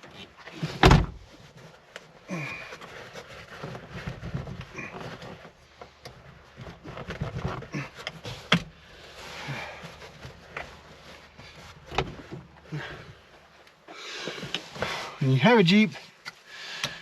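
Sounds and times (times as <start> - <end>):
fabric rustling and handling: 0.0 - 15.2.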